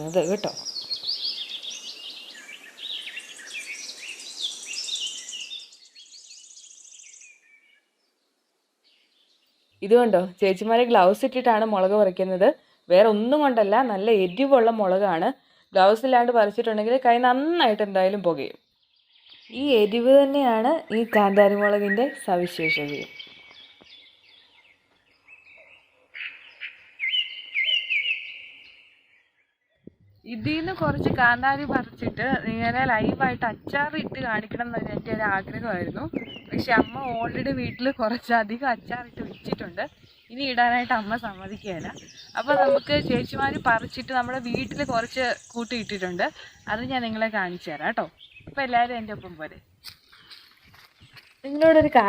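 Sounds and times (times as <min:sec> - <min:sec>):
birds chirping and calling: 0:00.0 - 0:52.0.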